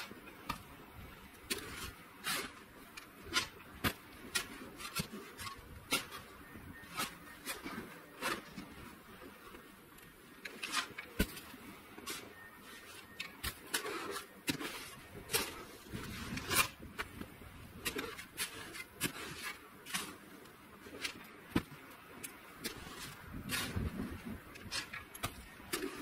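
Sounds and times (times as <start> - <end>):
snow shovel crunching and scraping: 0.0 - 26.0.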